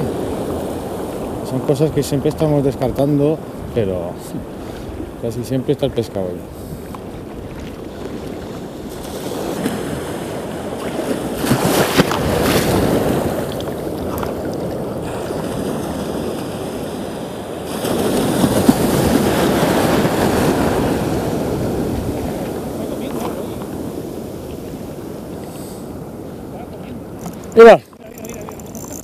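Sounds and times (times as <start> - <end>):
wind on microphone: 0.0 - 5.4, 6.4 - 29.0
small waves washing in shallows: 0.0 - 29.0.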